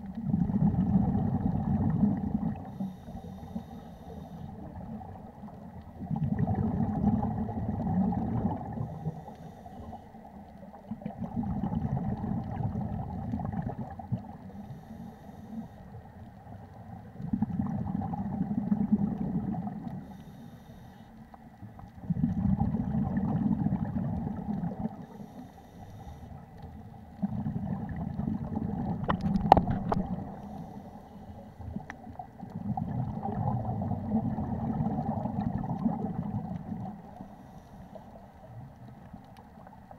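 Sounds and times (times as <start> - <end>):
underwater exhaled bubbles: 0.0 - 39.9.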